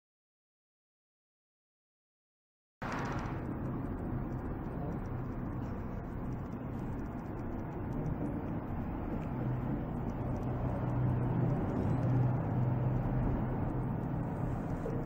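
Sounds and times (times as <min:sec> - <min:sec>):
low mechanical hum: 0:02.8 - 0:15.0
rumbling noise: 0:02.8 - 0:15.0.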